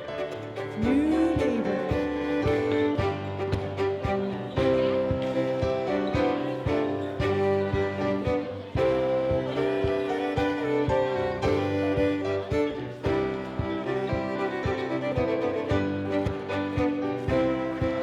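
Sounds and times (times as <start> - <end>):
fiddle dance band music: 0.0 - 18.0.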